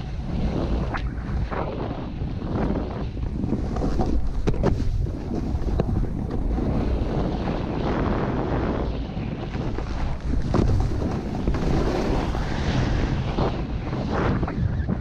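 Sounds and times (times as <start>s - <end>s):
snowboard scraping over snow: 0.0s - 15.0s
wind buffeting microphone: 0.0s - 15.0s.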